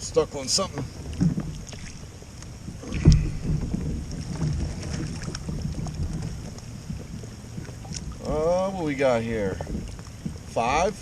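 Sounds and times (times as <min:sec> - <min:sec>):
low steady rumble: 0:00.0 - 0:11.0
water and handling noise: 0:00.0 - 0:11.0.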